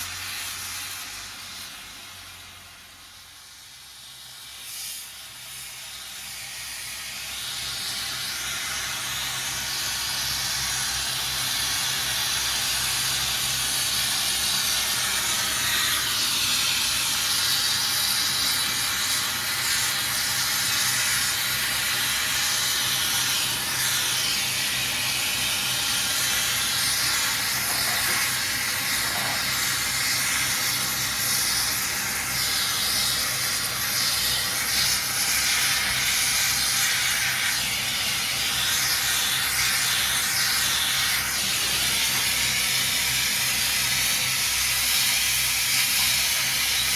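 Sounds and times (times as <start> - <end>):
gas torch flame hissing: 0.0 - 46.9.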